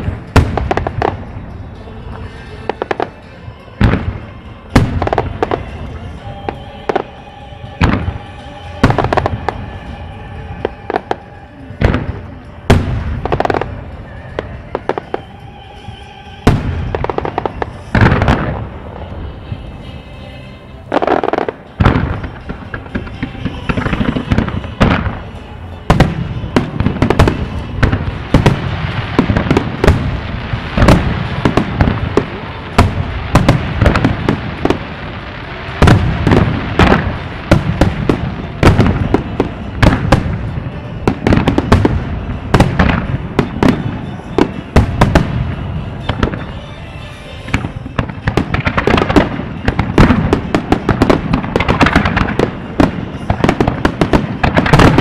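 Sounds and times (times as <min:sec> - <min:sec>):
fireworks bangs and crackles: 0:00.0 - 0:19.8, 0:20.9 - 0:55.0
music from loudspeakers: 0:00.0 - 0:55.0.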